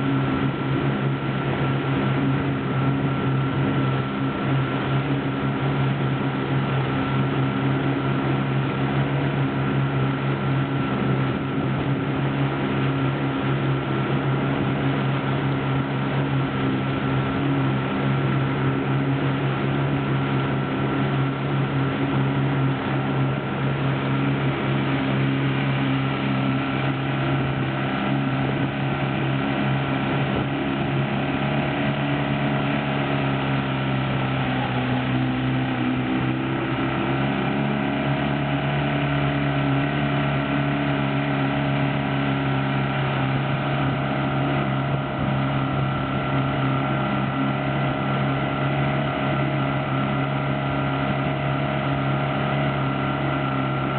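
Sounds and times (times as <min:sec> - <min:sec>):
outboard motor running: 0:00.0 - 0:53.9
water rushing past hull: 0:00.0 - 0:53.9
wind: 0:00.0 - 0:53.9.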